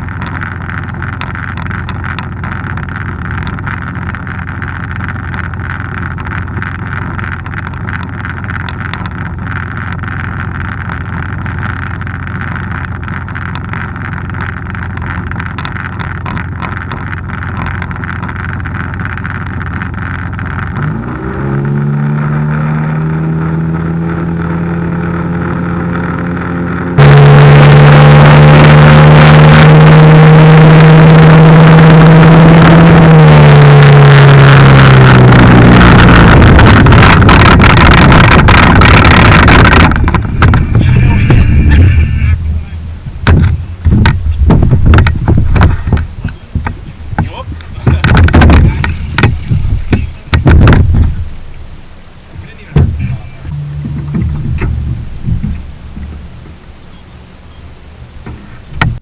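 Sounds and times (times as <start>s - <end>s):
loud rush of noise: 0.0s - 59.0s
outboard motor running: 0.0s - 59.0s.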